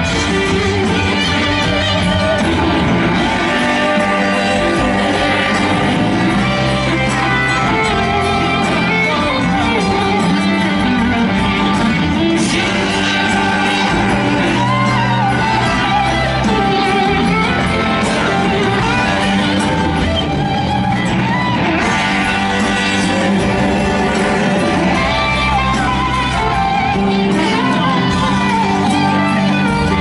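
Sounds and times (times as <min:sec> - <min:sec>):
bass: 0:00.0 - 0:30.0
drums: 0:00.0 - 0:30.0
electric guitars: 0:00.0 - 0:30.0.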